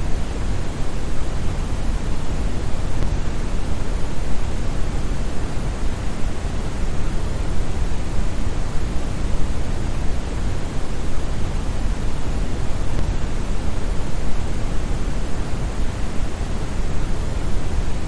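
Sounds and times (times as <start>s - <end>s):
brown noise hiss: 0.0s - 18.0s.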